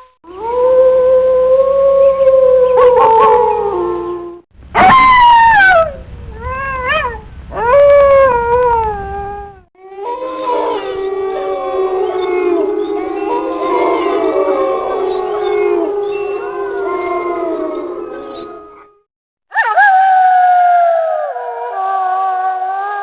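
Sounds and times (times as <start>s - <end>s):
wolves howling: 0.3s - 19.1s.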